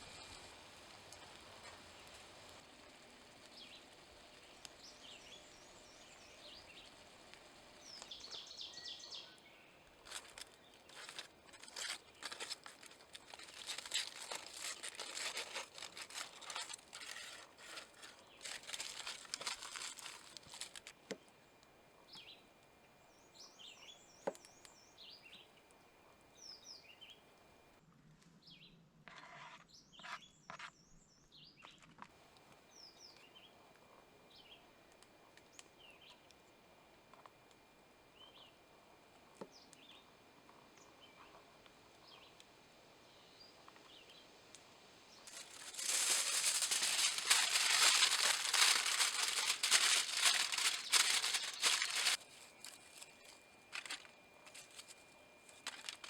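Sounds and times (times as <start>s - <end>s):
small birds chirping: 0.0s - 27.4s, 32.3s - 56.0s
crackling and rustling: 0.0s - 27.8s, 32.1s - 56.0s
outdoor background noise: 0.0s - 56.0s.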